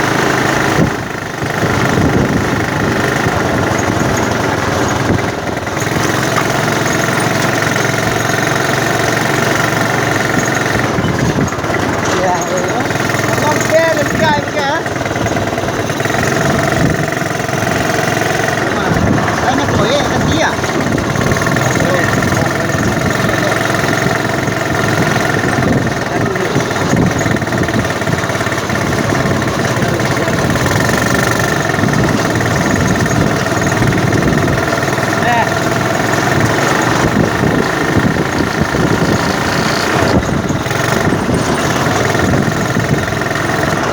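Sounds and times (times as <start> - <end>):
small engine running steadily: 0.0 - 43.9.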